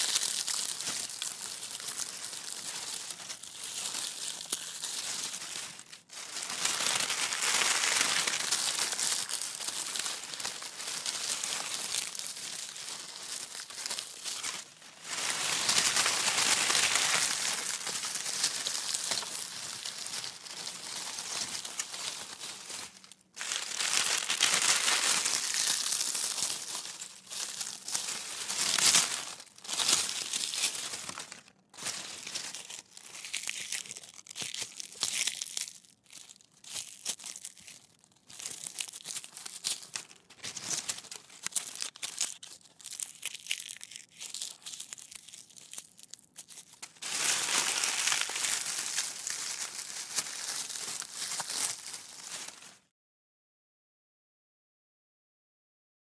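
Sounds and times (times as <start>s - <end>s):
dry leaves crunching in hands: 0.0s - 52.8s.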